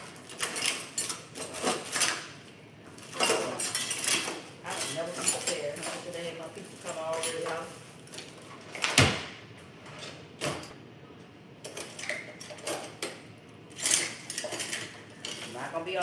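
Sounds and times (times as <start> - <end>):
kitchen items clicking and rattling: 0.0 - 9.0, 11.6 - 16.0
kitchen items clattering: 0.0 - 10.8, 11.6 - 16.0.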